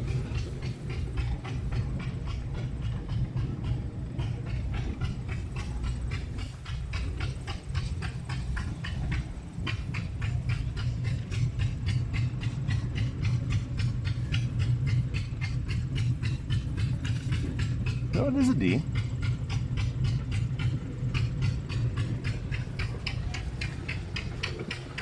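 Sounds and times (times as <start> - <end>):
machine puffing rhythmically: 0.0 - 25.0.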